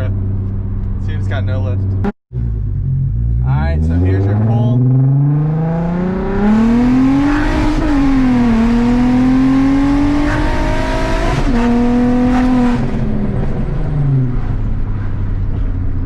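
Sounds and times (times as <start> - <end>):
car engine accelerating hard: 1.2 - 16.0.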